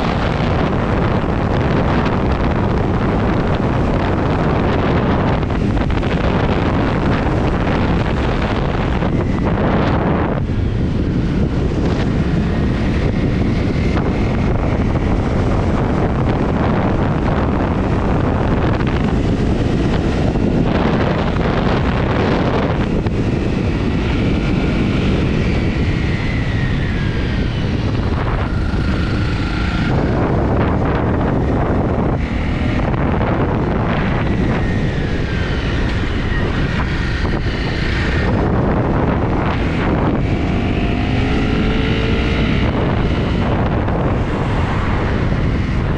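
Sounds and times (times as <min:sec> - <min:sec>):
wind on microphone: 0:00.0 - 0:45.9.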